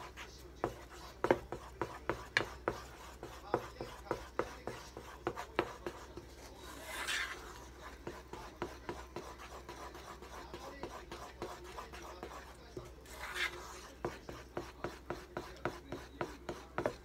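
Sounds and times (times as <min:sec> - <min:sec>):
spatula scraping metal saucepan: 0:00.0 - 0:17.0.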